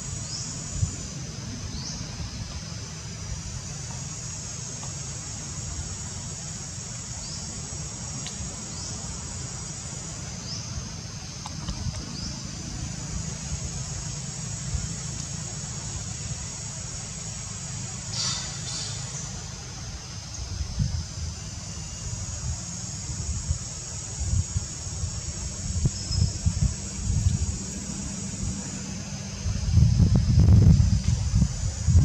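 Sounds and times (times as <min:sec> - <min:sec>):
insect chorus drone: 0:00.0 - 0:32.0.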